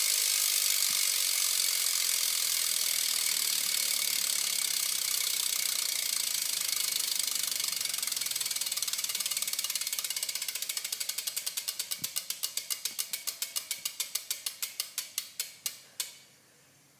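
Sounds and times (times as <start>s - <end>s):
bicycle hub freewheel ratcheting: 0.0s - 16.2s.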